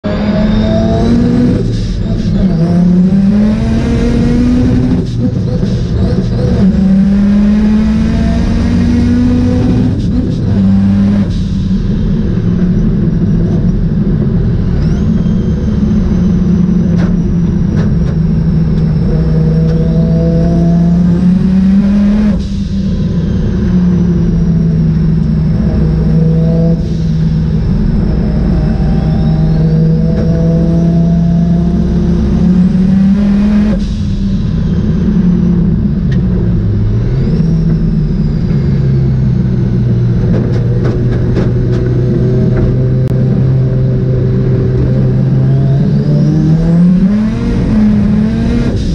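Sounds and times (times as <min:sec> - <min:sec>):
rotary engine revving: 0:00.0 - 0:48.9.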